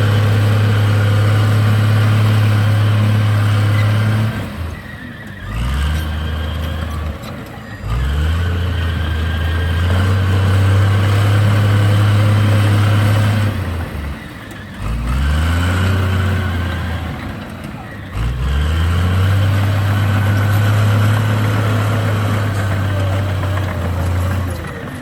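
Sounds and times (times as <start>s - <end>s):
heavy diesel engine revving: 0.0s - 25.0s.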